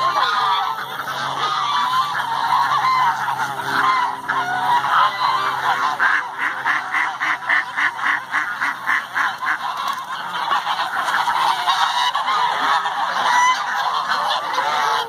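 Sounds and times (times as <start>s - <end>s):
geese ducks and chickens calling: 0.0s - 15.0s.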